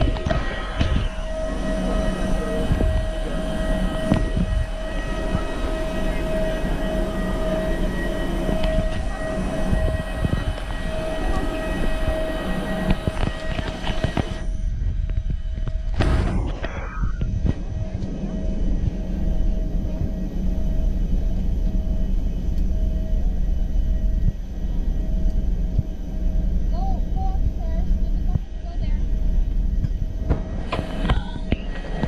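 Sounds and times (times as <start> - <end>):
bus engine drone and whine: 0.0 - 32.0
low rumble: 0.0 - 32.0.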